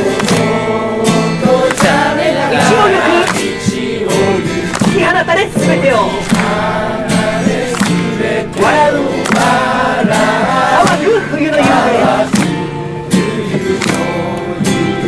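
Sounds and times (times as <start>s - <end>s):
acoustic guitar: 0.0s - 15.0s
crowd singing in unison: 0.0s - 15.0s
hands clapping: 0.0s - 15.0s.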